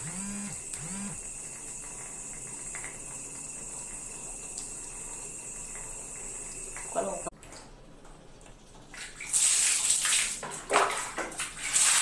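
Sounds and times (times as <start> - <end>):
running water tap: 0.0 - 7.7, 8.4 - 12.0.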